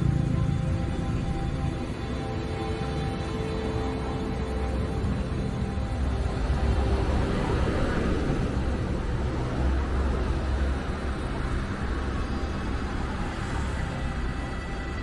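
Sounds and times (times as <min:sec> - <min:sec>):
bus passing with tyre noise: 0:00.0 - 0:15.0.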